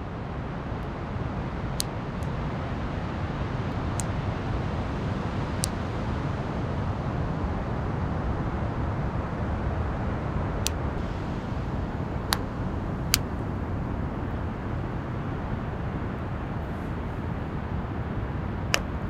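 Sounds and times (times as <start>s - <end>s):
wind: 0.0s - 19.0s
ocean surf: 0.1s - 19.0s.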